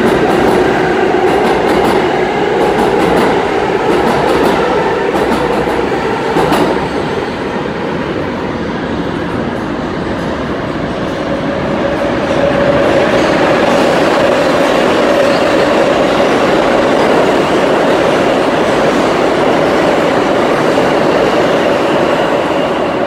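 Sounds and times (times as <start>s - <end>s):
subway train rumbling past: 0.0s - 23.0s.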